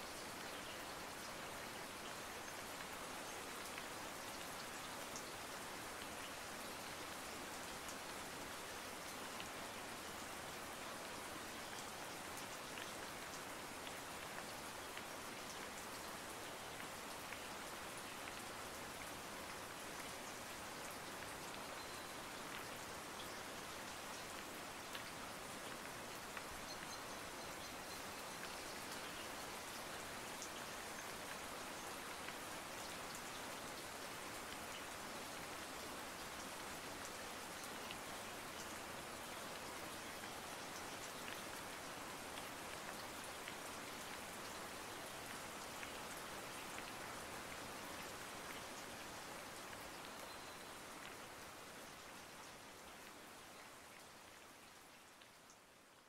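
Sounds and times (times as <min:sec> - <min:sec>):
steady rain hiss: 0:00.0 - 0:56.0
faint raindrop ticks: 0:09.0 - 0:56.0.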